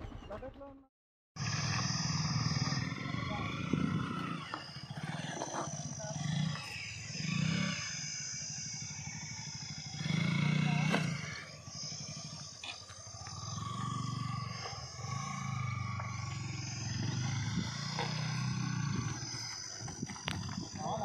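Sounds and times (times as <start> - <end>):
motorcycle engine revving: 1.4 - 21.0.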